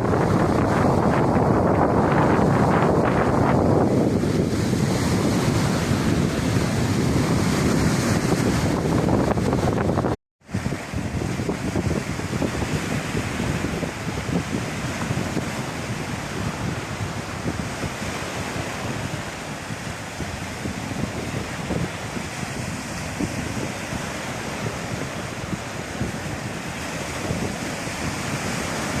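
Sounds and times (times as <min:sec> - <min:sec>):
waves washing on shore: 0:00.0 - 0:29.0
wind buffeting microphone: 0:00.0 - 0:29.0.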